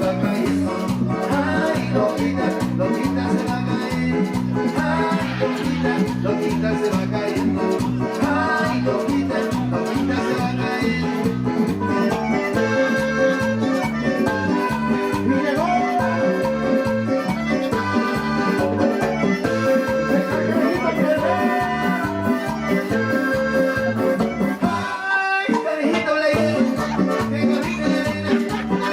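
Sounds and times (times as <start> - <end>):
latin dance music with keyboards: 0.0 - 28.9.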